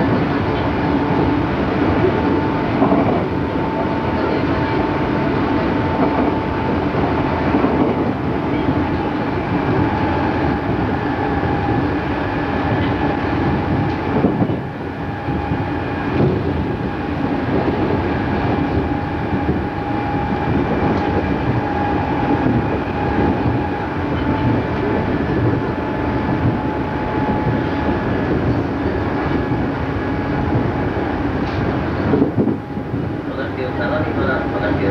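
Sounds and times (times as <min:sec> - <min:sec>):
high train whine: 0:00.0 - 0:34.9
train wheels rumbling on rails: 0:00.0 - 0:34.9.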